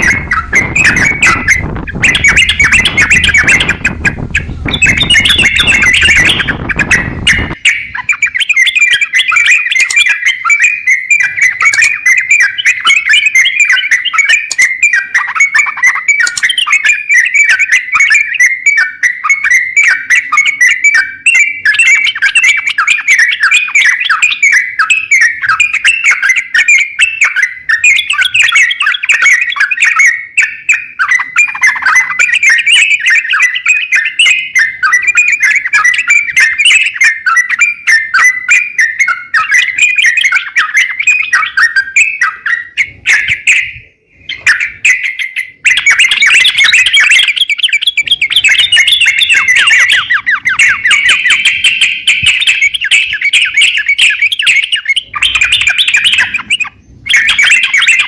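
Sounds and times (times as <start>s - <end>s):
songbird chattering song: 0.0s - 58.0s.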